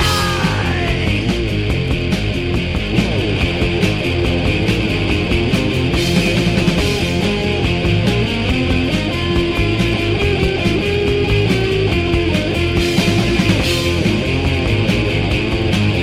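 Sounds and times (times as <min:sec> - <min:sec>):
punk rock music: 0:00.0 - 0:16.0.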